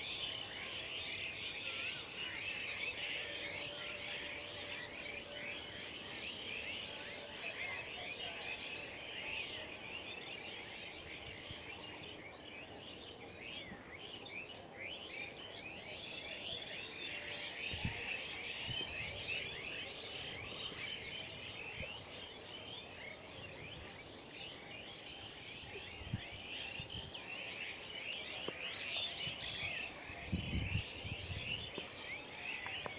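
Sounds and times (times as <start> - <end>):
chorus of birds chirping: 0.0 - 32.9.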